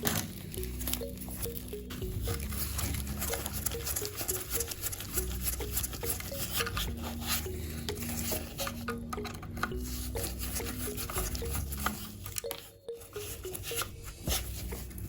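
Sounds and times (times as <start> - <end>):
background music repeating note: 0.0 - 15.0.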